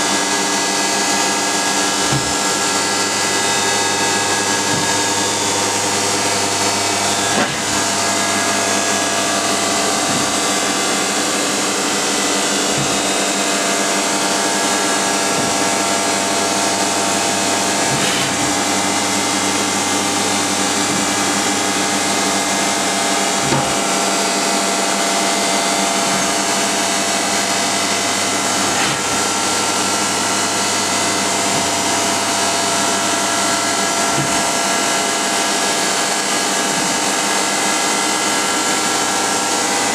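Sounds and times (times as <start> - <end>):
machining center whine: 0.0 - 39.9.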